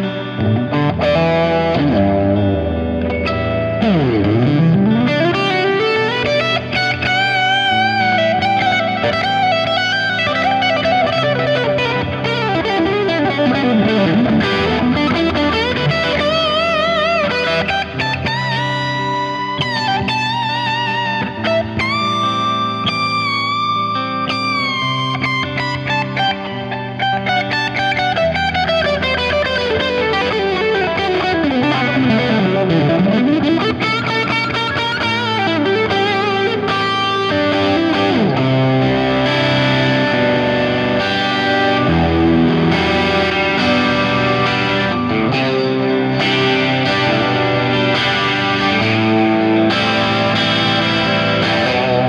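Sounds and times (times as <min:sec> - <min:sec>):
looped chord backing: 0:00.0 - 0:52.0
overdriven electric guitar lead: 0:00.0 - 0:52.0.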